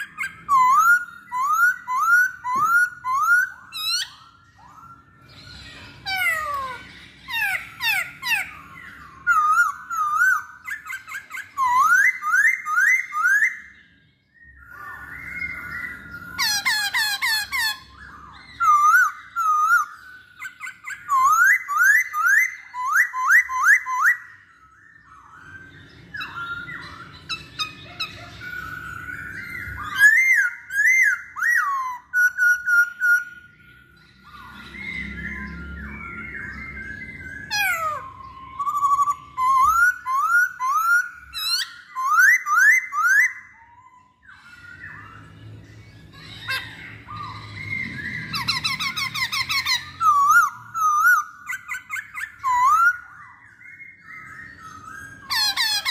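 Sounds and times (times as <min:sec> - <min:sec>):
bird singing whistled phrases: 0:00.0 - 0:55.9.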